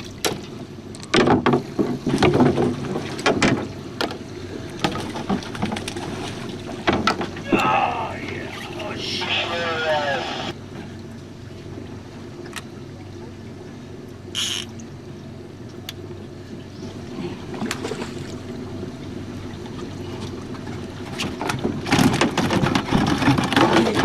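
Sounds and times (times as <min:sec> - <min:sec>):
boat motor humming: 0:00.0 - 0:24.0
water sounds: 0:00.0 - 0:24.0.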